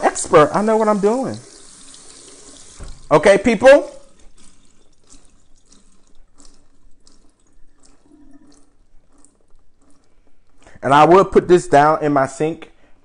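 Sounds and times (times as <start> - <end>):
water dripping into a sink: 0.0 - 10.8.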